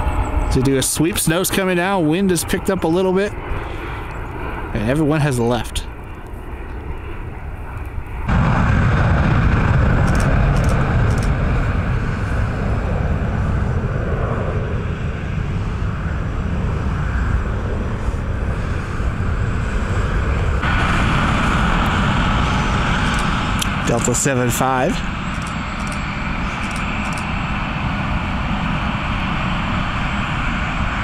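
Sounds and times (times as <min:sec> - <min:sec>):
jet aircraft roar: 0:00.0 - 0:31.0.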